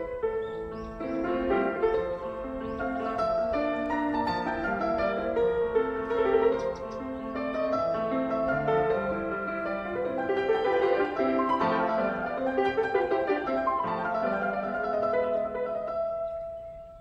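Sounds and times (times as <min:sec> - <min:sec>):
classical piano music: 0:00.0 - 0:17.0.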